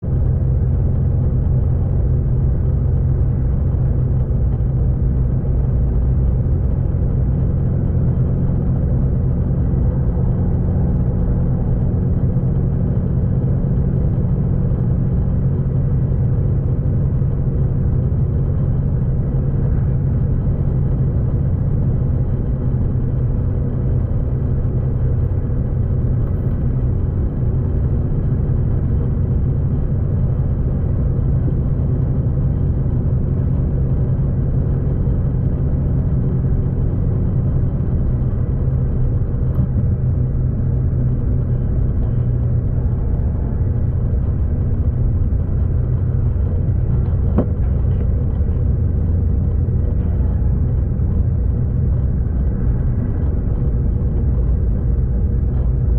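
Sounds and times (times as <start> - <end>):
train rumbling on board: 0.0 - 55.9.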